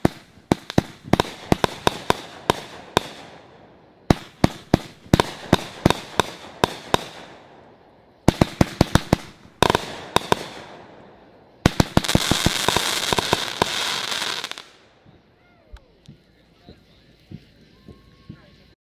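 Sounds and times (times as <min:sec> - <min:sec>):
firework bangs: 0:00.0 - 0:15.2
firework crackling volley: 0:00.0 - 0:18.8.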